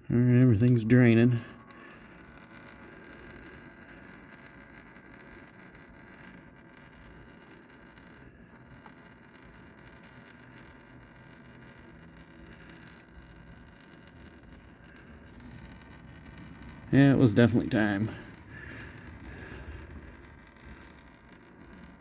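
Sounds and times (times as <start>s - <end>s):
small ticks: 0.0s - 17.0s, 17.9s - 22.0s.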